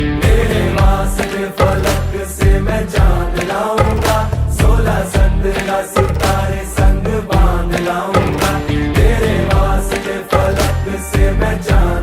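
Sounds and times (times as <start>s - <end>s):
upbeat film song with bass beat: 0.0s - 12.0s.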